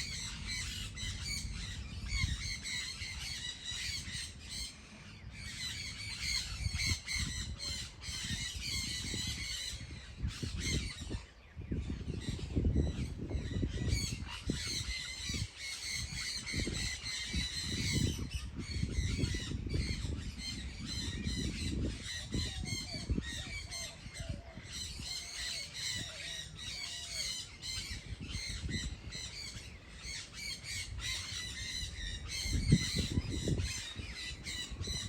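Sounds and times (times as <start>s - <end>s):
birds squawking and chattering: 0.0s - 35.0s.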